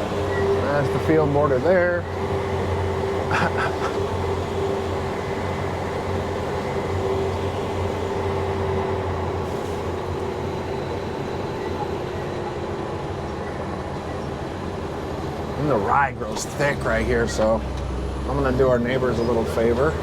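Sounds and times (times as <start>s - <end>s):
diesel engine low drone: 0.0s - 20.0s
engine whine: 0.0s - 20.0s.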